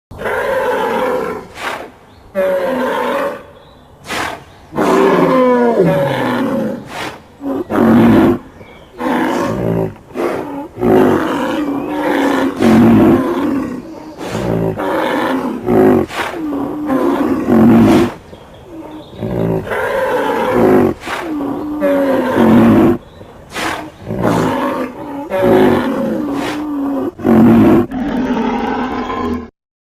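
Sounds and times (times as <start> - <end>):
animal roars and bellows: 4.1 - 29.5.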